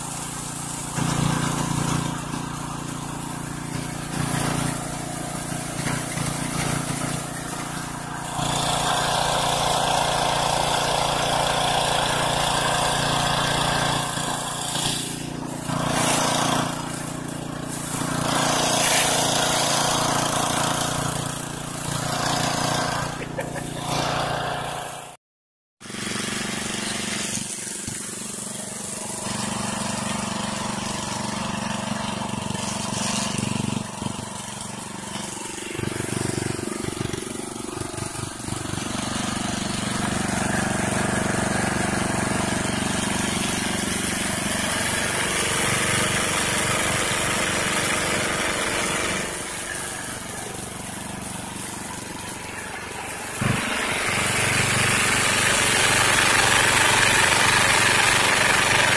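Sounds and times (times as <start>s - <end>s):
water pump engine running: 0.0s - 25.2s, 25.8s - 58.9s.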